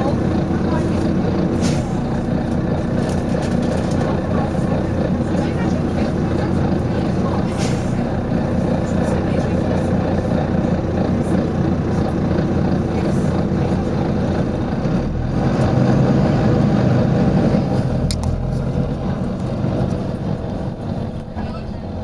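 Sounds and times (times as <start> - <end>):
diesel bus engine running: 0.0 - 22.0.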